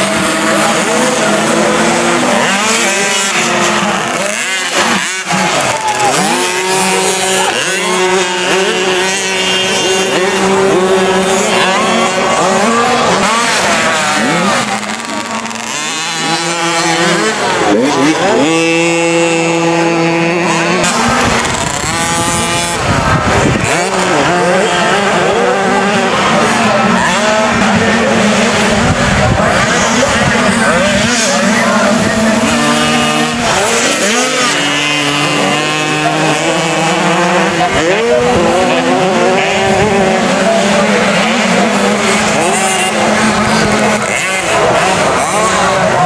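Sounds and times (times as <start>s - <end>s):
motocross bike engines revving: 0.0s - 46.0s.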